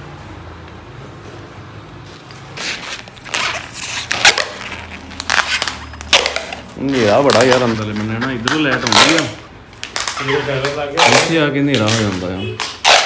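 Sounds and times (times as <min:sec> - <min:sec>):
materials scraping and rustling: 0:00.2 - 0:13.0.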